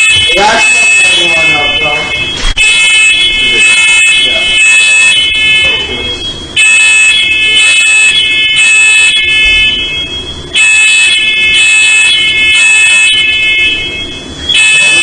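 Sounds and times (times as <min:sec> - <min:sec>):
smoke alarm beeping: 0:00.0 - 0:15.0.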